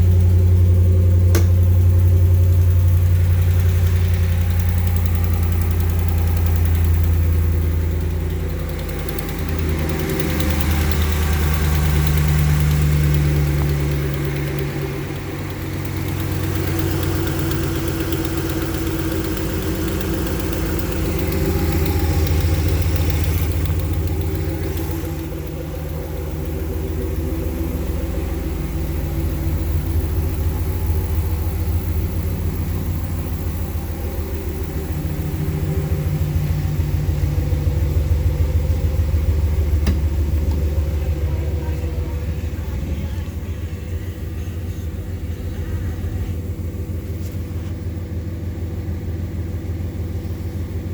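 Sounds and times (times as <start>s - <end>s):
engine running: 0.0s - 50.9s
rapid engine ticking: 0.0s - 50.9s.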